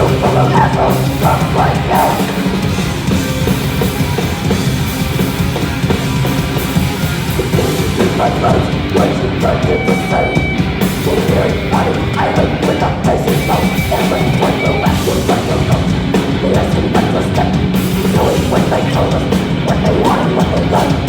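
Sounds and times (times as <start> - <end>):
drum kit: 0.0 - 21.0
electric guitars: 0.0 - 21.0.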